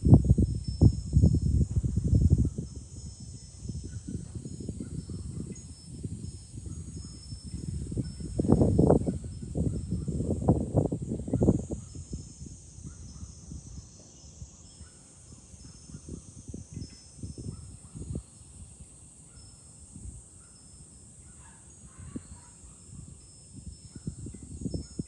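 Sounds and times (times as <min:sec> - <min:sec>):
cicadas buzzing: 0:00.0 - 0:25.0
wind rumbling on microphone: 0:00.0 - 0:25.0.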